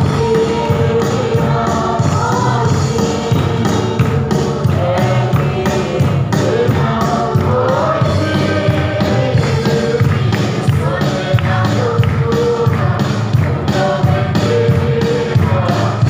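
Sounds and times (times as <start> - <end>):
congregation singing a hymn: 0.0 - 16.0
steady beat: 0.0 - 16.0.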